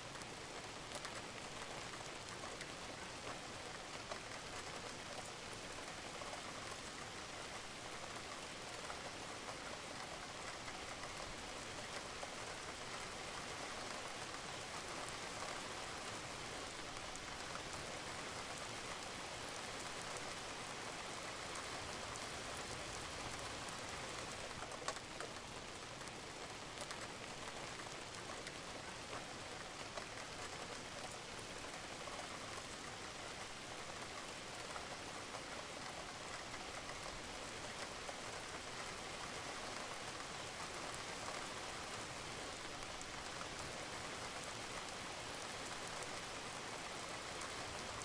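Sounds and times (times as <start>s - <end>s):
rain falling on a roof: 0.0s - 48.0s.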